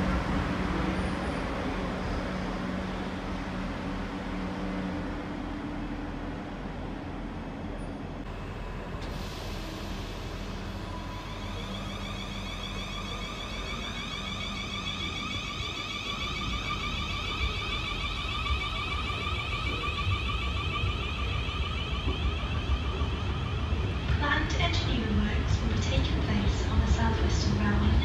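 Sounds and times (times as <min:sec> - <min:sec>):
train drive whine: 0:00.0 - 0:28.0
train low rumble: 0:00.0 - 0:28.0.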